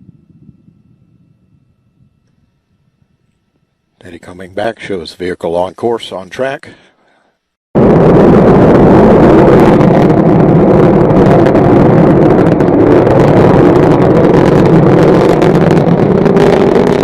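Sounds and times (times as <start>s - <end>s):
rocket engine crackling rumble: 0.0s - 6.2s, 7.8s - 17.0s.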